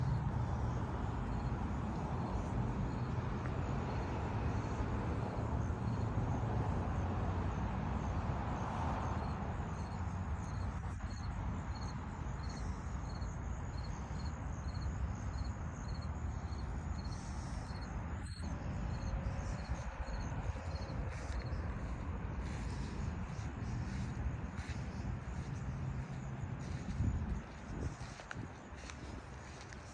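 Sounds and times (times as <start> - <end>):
low outdoor rumble: 0.0 - 7.5, 8.1 - 29.9
faint high insect chirp: 0.0 - 29.9.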